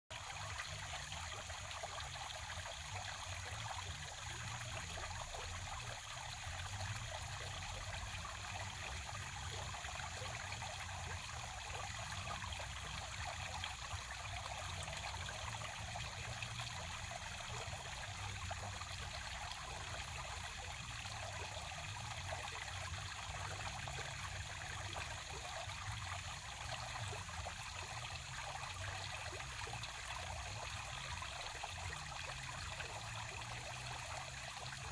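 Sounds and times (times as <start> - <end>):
fountain water trickling and splashing: 0.1 - 34.9.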